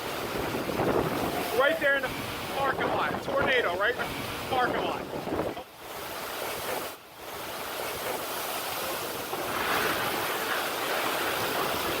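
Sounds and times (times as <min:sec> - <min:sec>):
wind rushing across microphone: 0:00.0 - 0:12.0.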